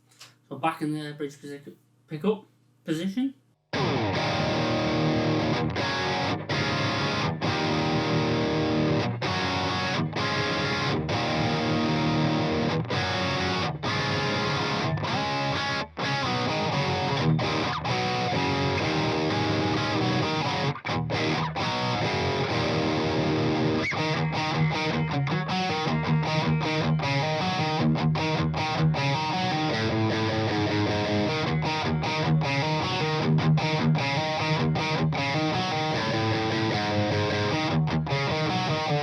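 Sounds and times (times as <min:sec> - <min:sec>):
overdriven electric guitar: 0:03.7 - 0:39.0.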